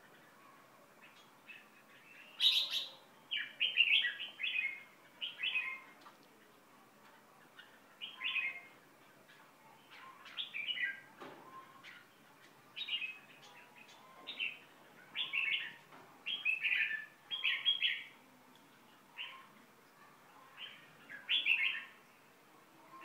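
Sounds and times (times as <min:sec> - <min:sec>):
bird chirping: 0:00.0 - 0:06.5, 0:07.3 - 0:18.2, 0:19.0 - 0:22.1.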